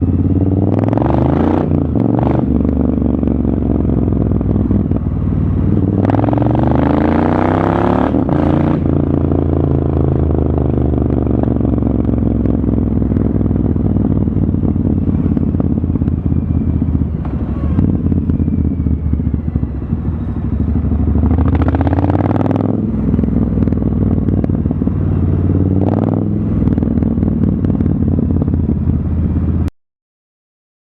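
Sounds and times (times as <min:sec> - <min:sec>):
motorcycle engine rumbling: 0:00.0 - 0:29.7.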